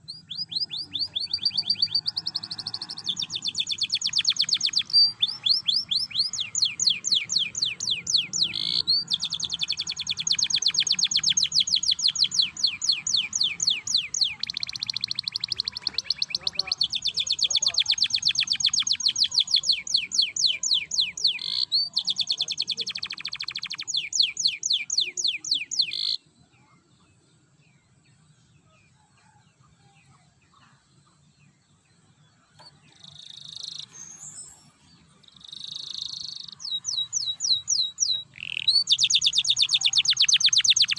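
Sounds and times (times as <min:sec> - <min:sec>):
canary singing trills: 0:00.0 - 0:27.2, 0:28.1 - 0:40.9.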